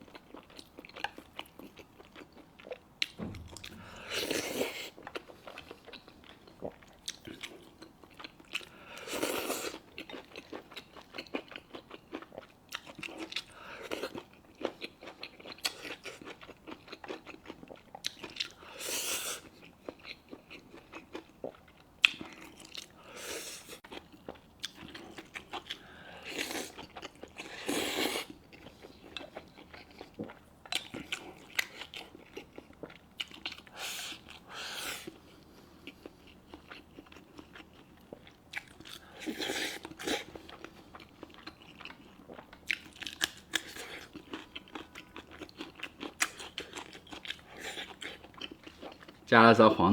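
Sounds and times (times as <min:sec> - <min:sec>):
person chewing wet mouth sounds: 0:00.0 - 0:18.6, 0:19.4 - 0:35.2, 0:35.8 - 0:49.3.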